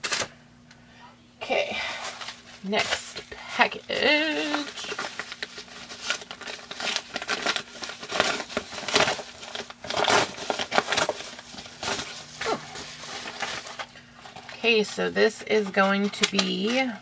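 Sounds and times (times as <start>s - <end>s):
packaging crinkling: 1.9s - 17.0s.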